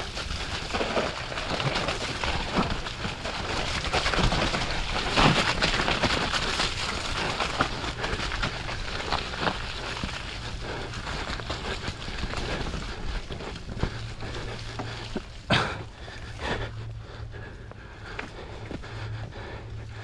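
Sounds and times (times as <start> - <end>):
bike rattling over bumps: 0.0 - 20.0
bike tyres on dirt and stones: 0.0 - 20.0.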